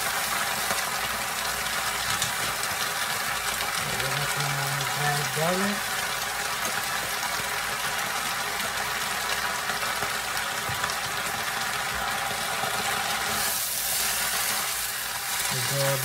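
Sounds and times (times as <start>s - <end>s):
greens sizzling in a frying pan: 0.0s - 16.0s.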